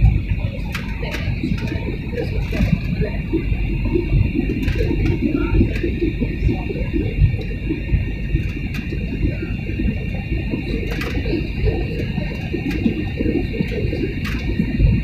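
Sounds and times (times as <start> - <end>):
high whine: 0.0 - 15.0
jet engines and airflow rumble: 0.0 - 15.0.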